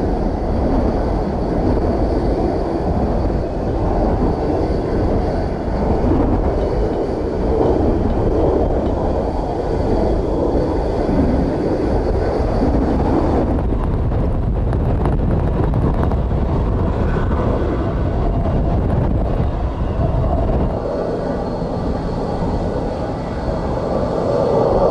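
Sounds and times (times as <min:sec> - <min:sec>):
jet engines rumbling: 0:00.0 - 0:24.9
wind buffeting microphone: 0:00.0 - 0:24.9.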